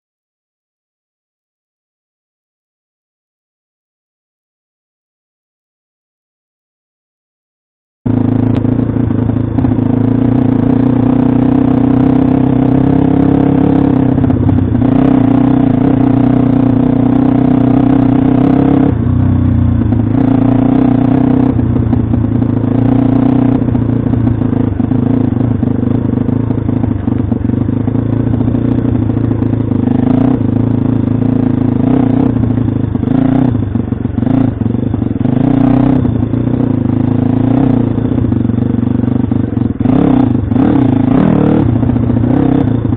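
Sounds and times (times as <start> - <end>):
small motorbike engine running hard: 8.1 - 42.9.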